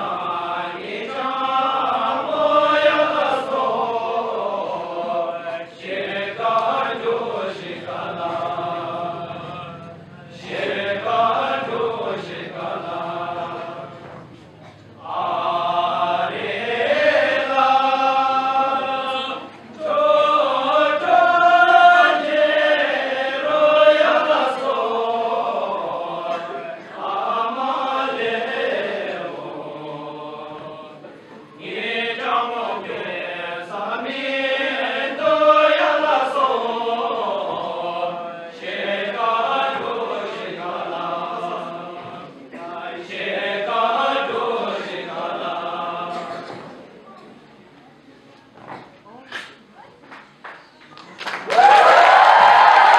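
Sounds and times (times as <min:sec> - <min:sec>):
group singing in unison: 0:00.0 - 0:47.0.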